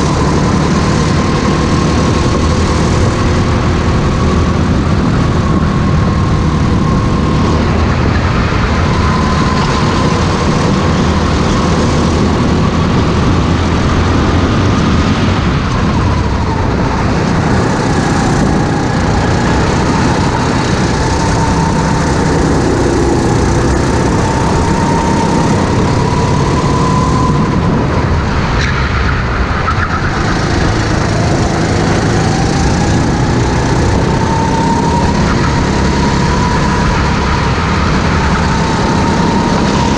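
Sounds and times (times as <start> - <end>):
racing kart engine at speed: 0.0 - 39.9.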